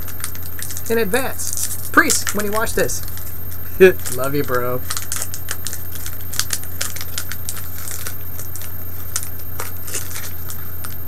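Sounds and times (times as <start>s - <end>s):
foil wrapper crinkling: 0.0s - 11.0s
steady low hum: 0.0s - 11.0s.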